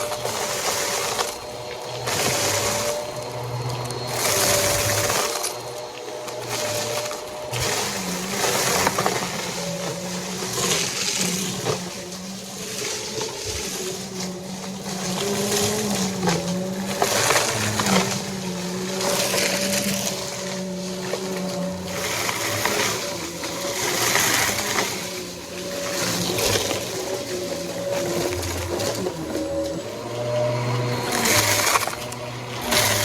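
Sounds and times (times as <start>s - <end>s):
debris crackling and rattling: 0.0s - 33.0s
vacuum cleaner running: 0.0s - 33.0s.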